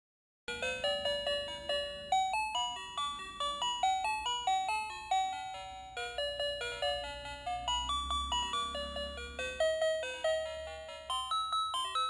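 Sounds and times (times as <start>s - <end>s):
toy playing electronic tune: 0.5s - 12.0s.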